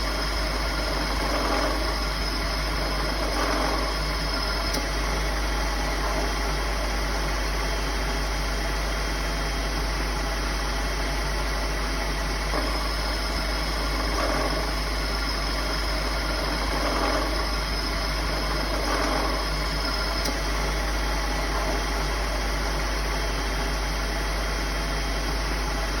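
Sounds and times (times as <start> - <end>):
car engine running: 0.0 - 8.1, 9.8 - 23.8.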